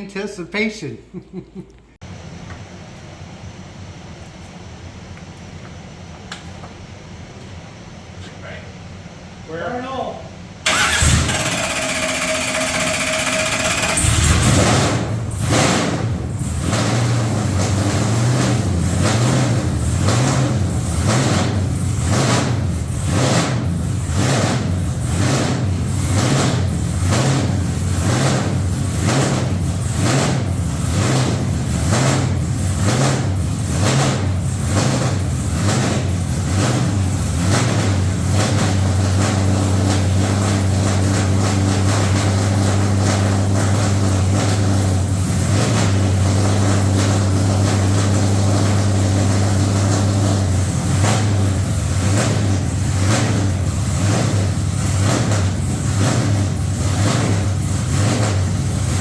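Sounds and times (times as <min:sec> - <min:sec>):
truck engine running loud: 0:10.6 - 0:59.0.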